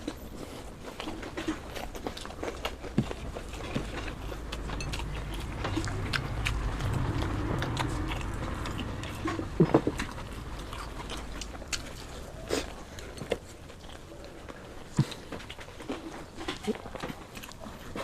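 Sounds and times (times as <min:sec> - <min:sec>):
biting and chewing: 0:00.0 - 0:18.0.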